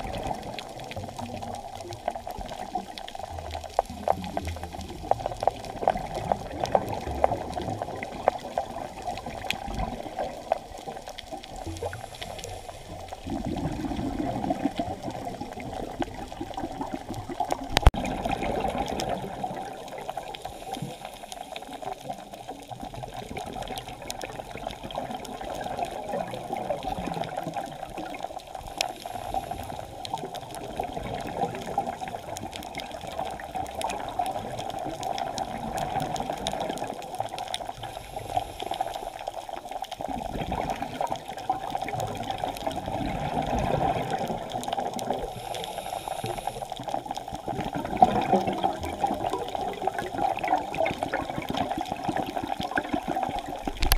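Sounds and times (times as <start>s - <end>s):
muffled underwater rush: 0.0s - 53.9s
scuba exhaust bubbles: 0.0s - 53.9s.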